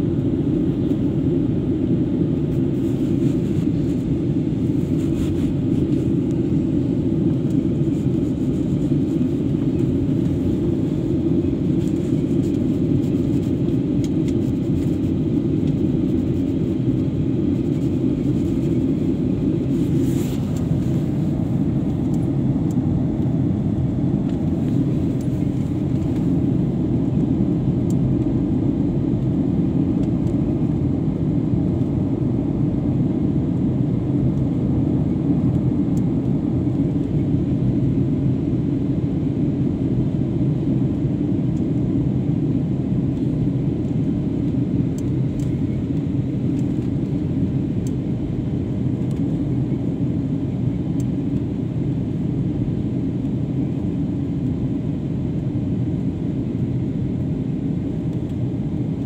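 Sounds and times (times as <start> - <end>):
jet airliner cabin rumble: 0.0 - 59.0.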